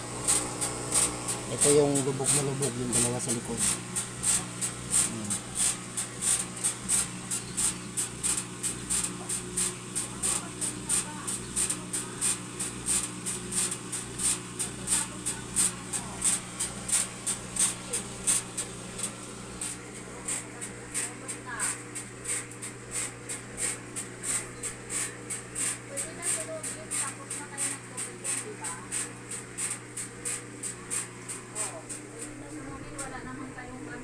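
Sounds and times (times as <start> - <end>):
motor hum: 0.0 - 34.0.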